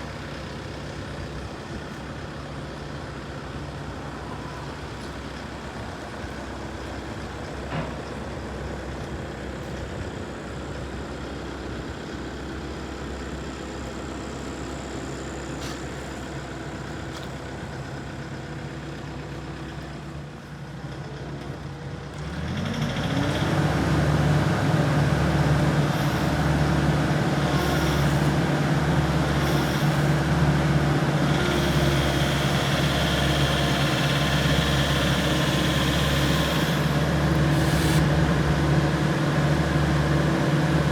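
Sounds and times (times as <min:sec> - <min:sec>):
excavator diesel engine idling: 0:00.0 - 0:40.9.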